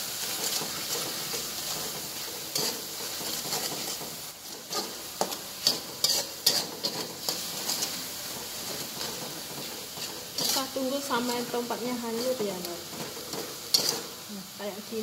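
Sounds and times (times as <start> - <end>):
metal spatula scraping a wok: 0.0 - 14.3
oil sizzling in a wok: 0.0 - 15.0.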